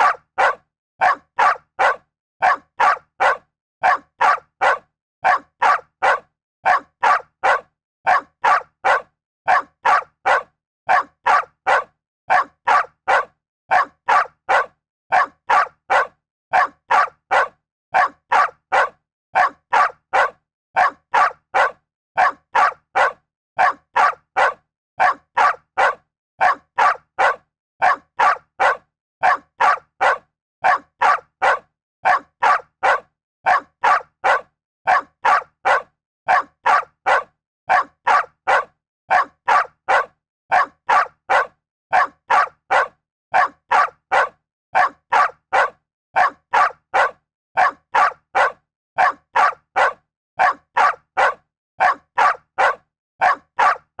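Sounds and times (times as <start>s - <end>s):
dog barking: 0.0s - 54.0s.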